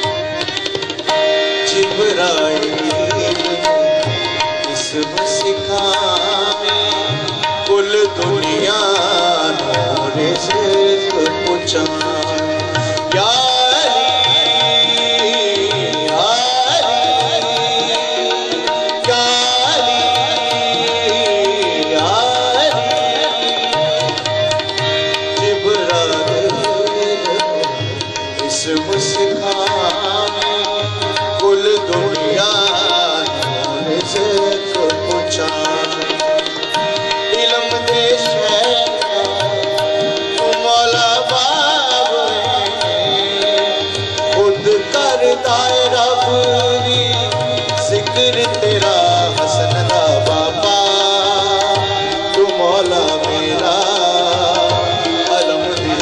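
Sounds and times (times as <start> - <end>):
harmonium chords: 0.0 - 56.0
tabla rhythm: 0.0 - 56.0
person singing ornamented melody: 1.6 - 56.0.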